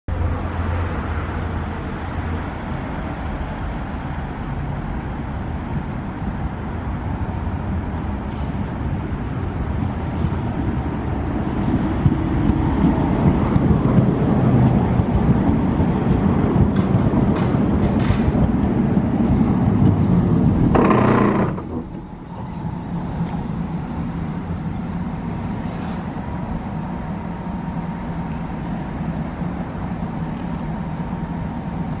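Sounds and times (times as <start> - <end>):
stopped tram humming: 0.1 - 32.0
tram running on rails: 0.1 - 32.0.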